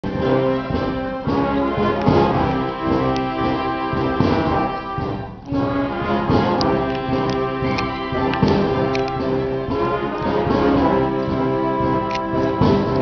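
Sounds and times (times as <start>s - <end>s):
orchestra playing brass-led show music: 0.0s - 13.0s.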